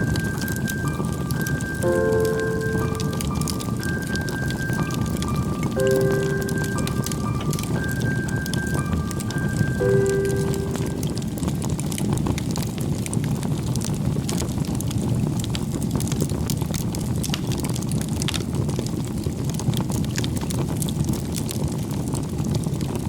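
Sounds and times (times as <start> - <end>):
fire crackles and pops: 0.0 - 23.0
wood fire rumbling: 0.0 - 23.0.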